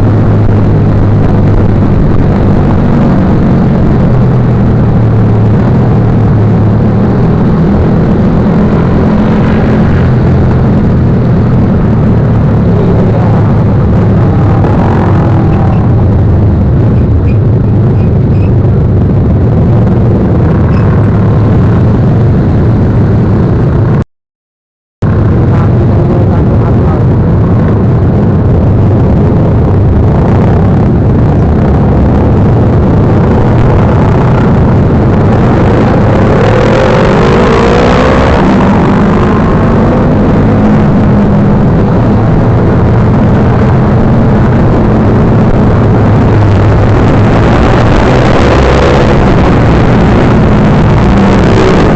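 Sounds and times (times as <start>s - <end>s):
motorcycle engine rumbling: 0.0s - 24.0s, 25.0s - 51.9s.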